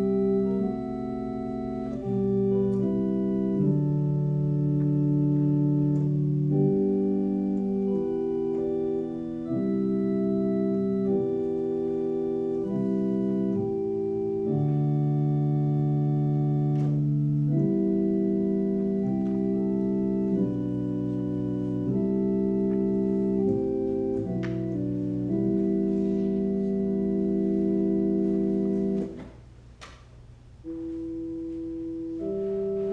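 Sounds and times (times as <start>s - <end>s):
organ playing sustained chords: 0.0s - 32.9s.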